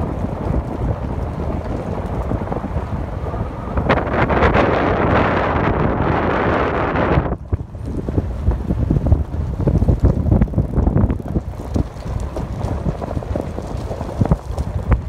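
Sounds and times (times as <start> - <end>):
vehicle rumbling on gravel road: 0.0 - 15.0
wind buffeting microphone: 0.0 - 15.0.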